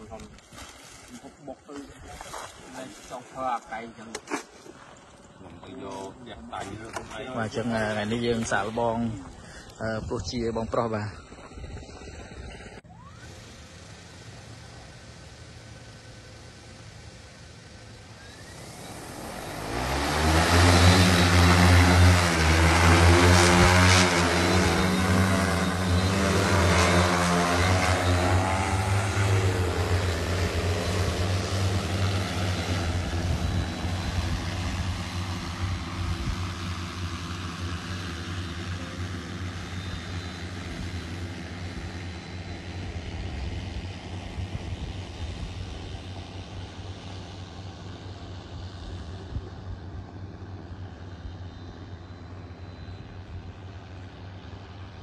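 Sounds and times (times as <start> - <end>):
drone propellers humming: 4.7 - 55.0.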